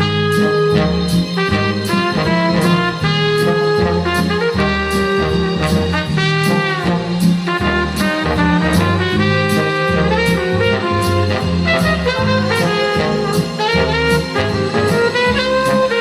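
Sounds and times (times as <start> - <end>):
big band swing music: 0.0 - 16.0.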